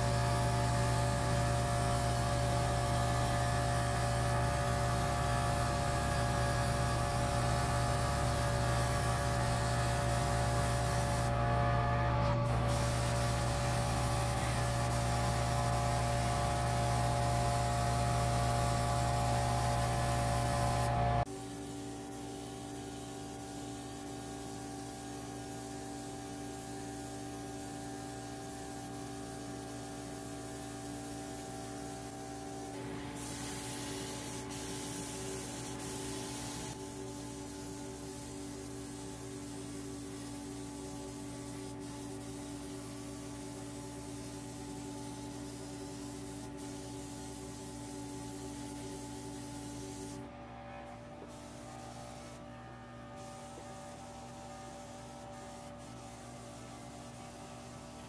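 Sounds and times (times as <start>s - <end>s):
machine hum with hiss: 0.0s - 58.0s.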